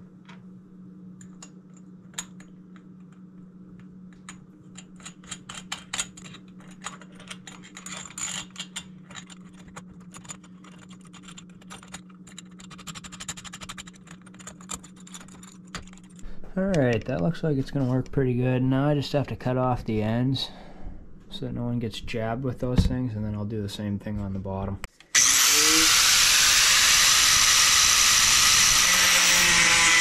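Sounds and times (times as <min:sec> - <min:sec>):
steady low hum: 0:00.0 - 0:29.2.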